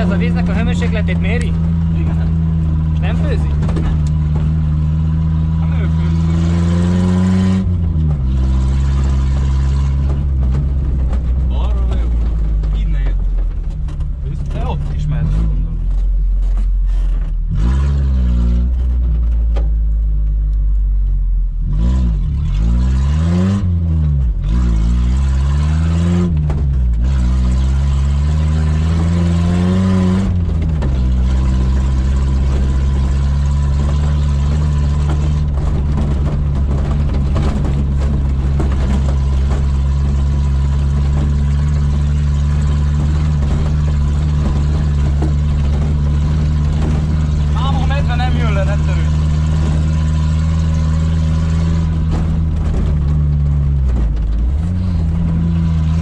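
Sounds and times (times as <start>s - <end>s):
off-road vehicle engine: 0.0s - 56.0s.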